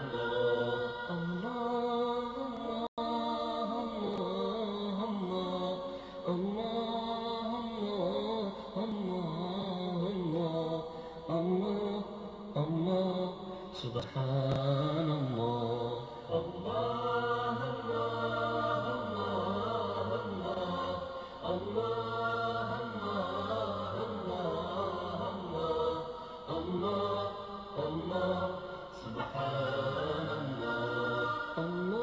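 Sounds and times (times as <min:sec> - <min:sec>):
voices chanting slow melody: 0:00.0 - 0:32.0.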